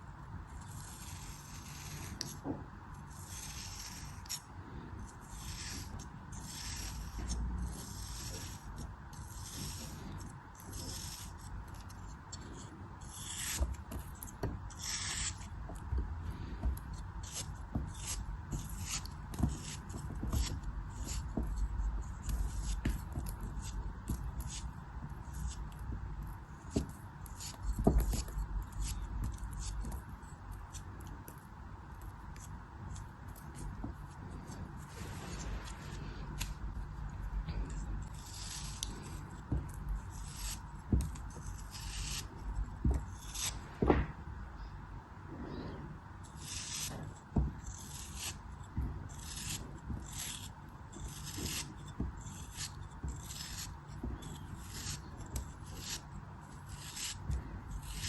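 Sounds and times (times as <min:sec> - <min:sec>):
blade cutting crumbly material: 0:00.5 - 0:31.4, 0:32.0 - 0:44.1, 0:45.5 - 0:58.0.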